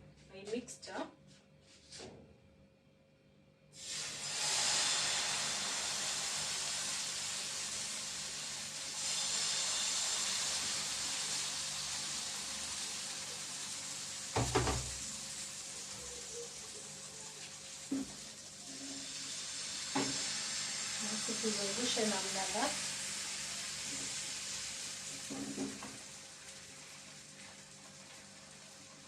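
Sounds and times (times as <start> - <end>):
pancake batter sizzling in pan: 3.8 - 29.0.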